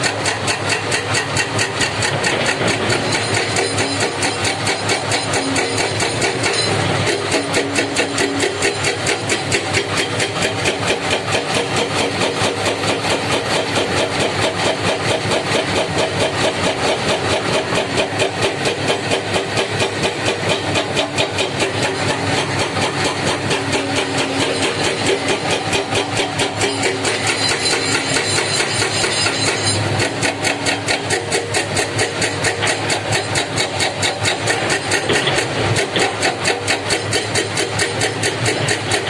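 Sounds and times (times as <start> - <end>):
heavy diesel engine pulsing: 0.1 - 39.0.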